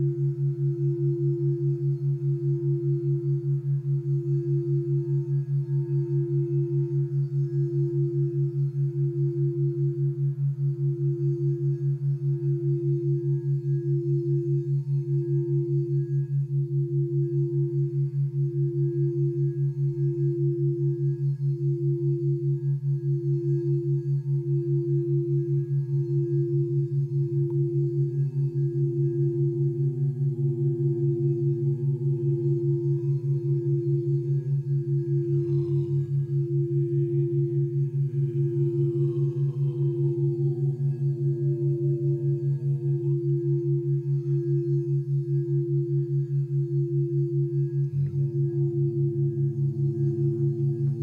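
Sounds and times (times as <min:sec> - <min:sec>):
crystal singing bowl ringing: 0:00.0 - 0:51.0
lower singing bowl tone: 0:00.0 - 0:51.0
pulsing low background tone: 0:00.0 - 0:51.0.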